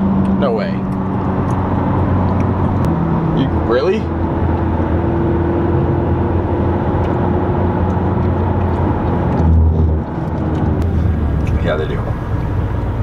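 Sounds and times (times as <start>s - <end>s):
car engine drone: 0.0s - 13.0s
tyre and road noise: 0.0s - 13.0s.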